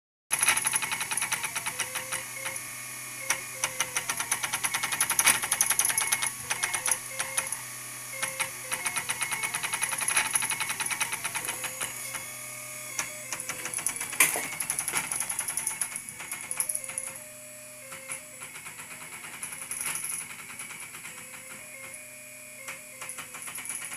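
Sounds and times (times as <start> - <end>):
short musical motor tones: 0.3 - 23.9
stepper motors clattering: 0.3 - 23.9
steady hum: 0.7 - 23.9.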